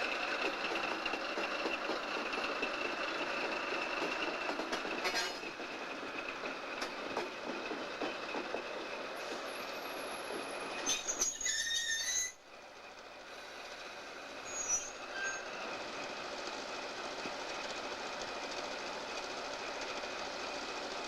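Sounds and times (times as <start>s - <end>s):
rail cars rolling on track: 0.0s - 21.0s
steel wheels squealing on rails: 0.0s - 21.0s.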